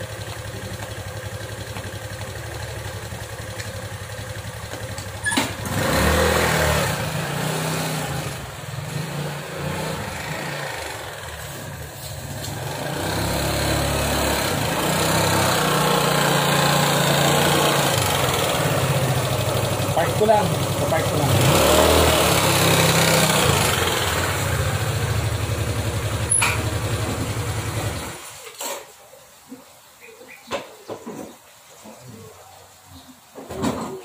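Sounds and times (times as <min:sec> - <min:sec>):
scooter engine idling and revving: 0:00.0 - 0:28.4.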